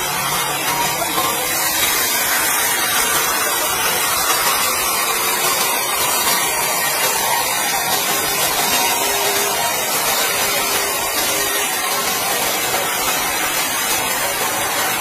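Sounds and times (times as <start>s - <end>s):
sawmill saw cutting log: 0.0s - 15.0s.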